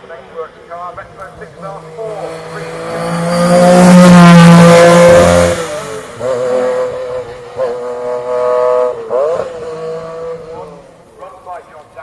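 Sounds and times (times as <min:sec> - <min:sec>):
rally car engine at full throttle: 0:00.0 - 0:12.0.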